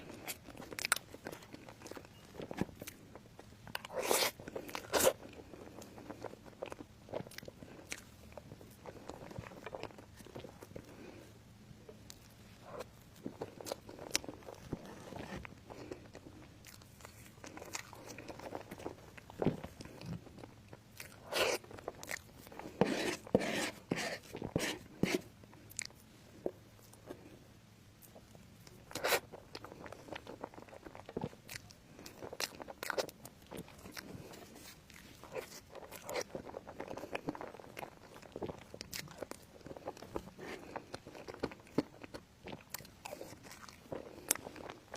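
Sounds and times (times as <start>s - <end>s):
crunchy chewing: 0.0s - 27.4s, 28.0s - 44.9s.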